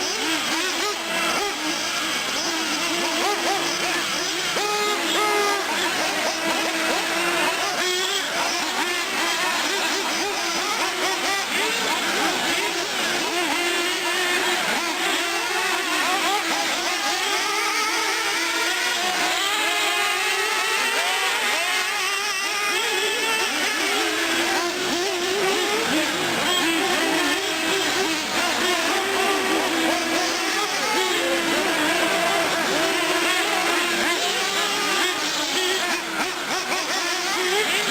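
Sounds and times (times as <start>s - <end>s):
small engines whining and revving: 0.0s - 37.9s.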